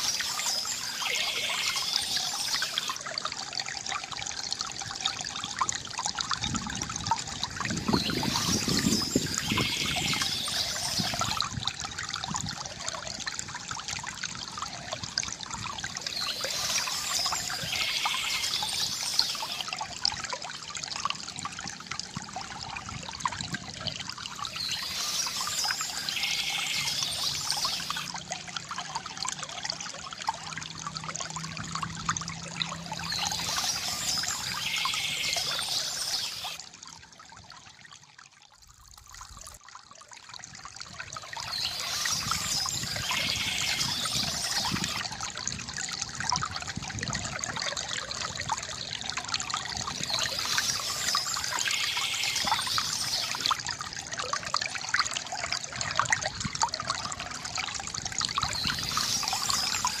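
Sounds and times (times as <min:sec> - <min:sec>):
water trickling from fountain spout: 0:00.0 - 1:00.0.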